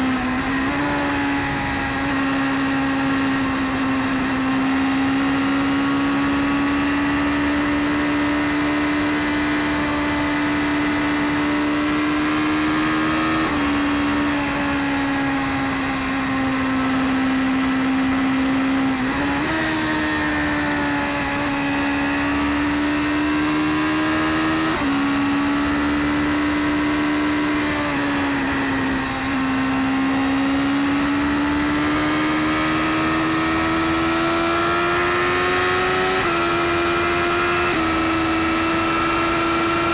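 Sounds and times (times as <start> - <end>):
sport bike engine at high revs: 0.0 - 39.9.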